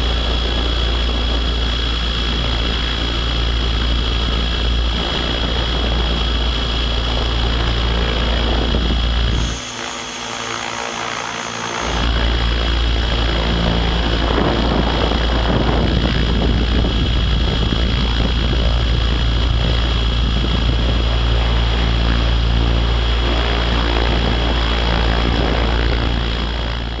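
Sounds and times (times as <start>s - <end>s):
model helicopter rotor whirr: 0.0s - 27.0s
thin high whine: 0.0s - 27.0s
wind rumble on microphone: 0.0s - 27.0s.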